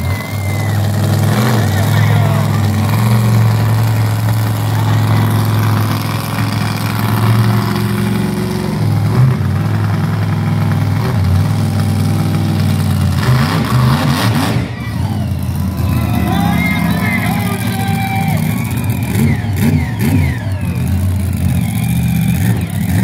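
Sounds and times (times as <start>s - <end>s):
loud truck engine running: 0.0s - 23.0s.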